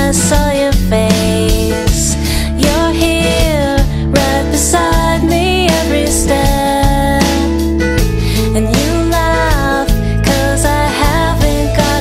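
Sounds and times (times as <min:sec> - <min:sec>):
song with melody bass and beat: 0:00.0 - 0:12.0.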